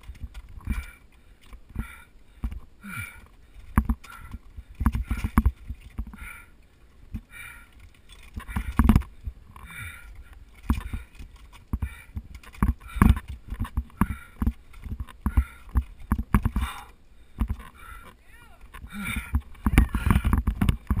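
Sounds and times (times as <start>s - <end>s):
climbing gear clinking: 0.0s - 21.0s
person breathing hard: 0.6s - 6.6s, 7.2s - 20.6s.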